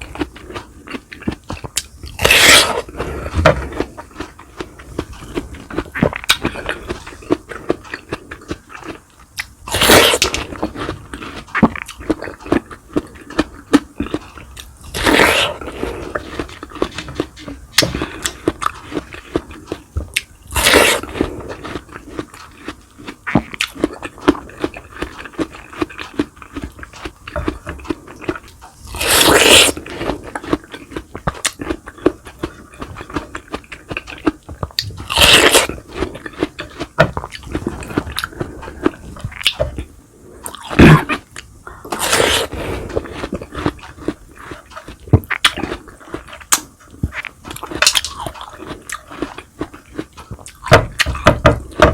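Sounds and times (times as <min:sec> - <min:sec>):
crunchy bites: 0:00.0 - 0:51.9
wet chewing: 0:00.0 - 0:51.9.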